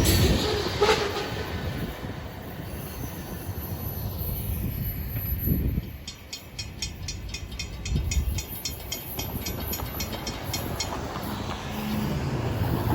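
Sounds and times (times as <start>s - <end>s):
freight cars rumbling past: 0.0s - 12.9s.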